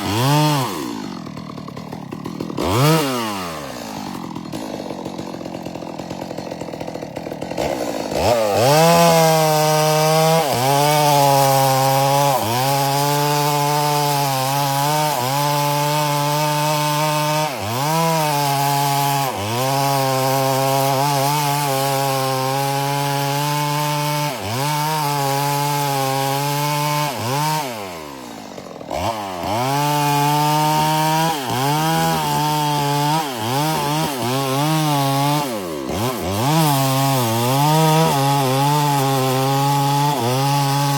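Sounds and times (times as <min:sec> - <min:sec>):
chainsaw cutting at high speed: 0:00.0 - 0:40.9.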